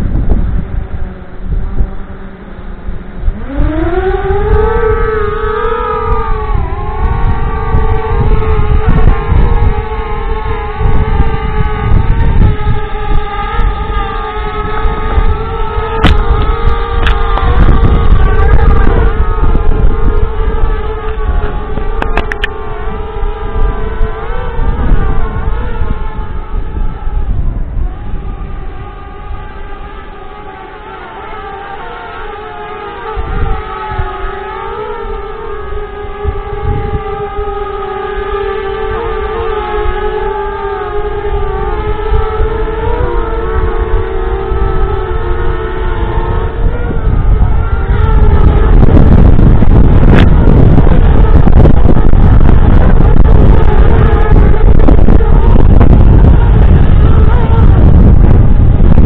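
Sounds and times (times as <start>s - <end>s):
drone propellers whining: 0.0s - 59.0s
wind rumble on microphone: 0.0s - 59.0s.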